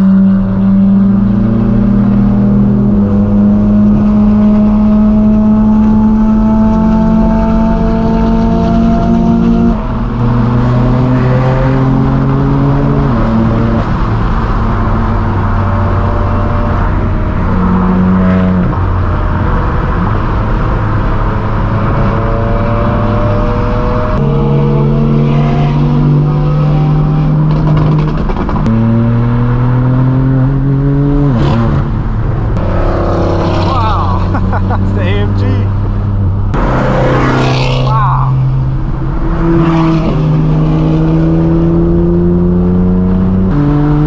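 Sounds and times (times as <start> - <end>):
loud car exhaust drone: 0.0 - 44.0.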